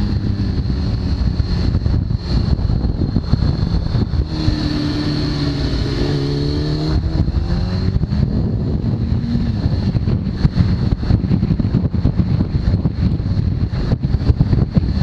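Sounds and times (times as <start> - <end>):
motorcycle accelerating hard: 0.0 - 15.0
wind rushing over microphone: 0.0 - 15.0.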